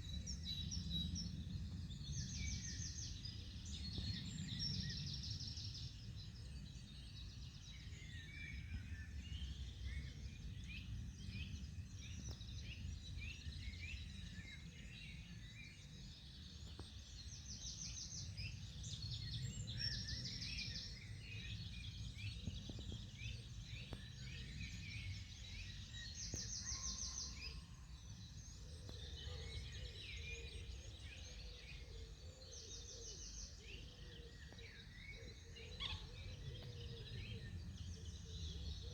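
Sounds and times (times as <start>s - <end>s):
small birds chirping and singing: 0.0s - 38.9s.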